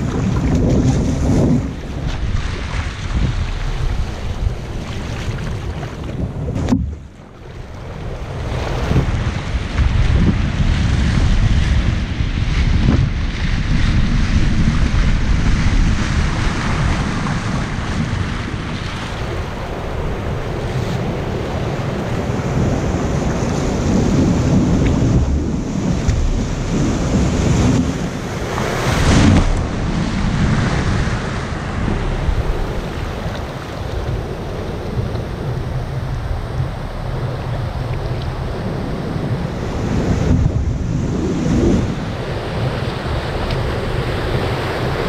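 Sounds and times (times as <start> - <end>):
surf and whitewater rushing: 0.0 - 45.0
wind buffeting microphone: 0.0 - 45.0.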